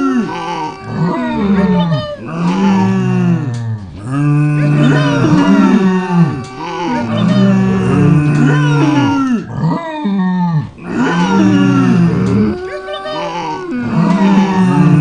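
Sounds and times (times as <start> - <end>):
farm animals calling: 0.0 - 3.2, 4.0 - 9.3, 10.9 - 15.0.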